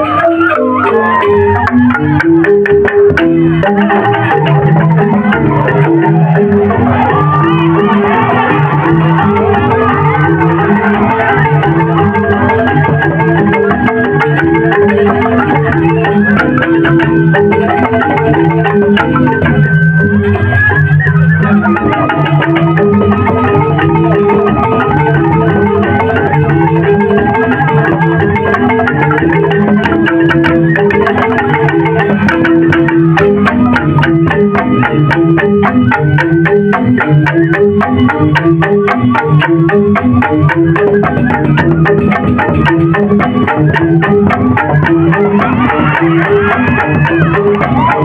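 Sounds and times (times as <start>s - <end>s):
sharp percussive strikes: 0.0s - 19.8s, 21.4s - 48.0s
bamboo xylophones playing: 0.0s - 48.0s
drumming: 0.0s - 48.0s.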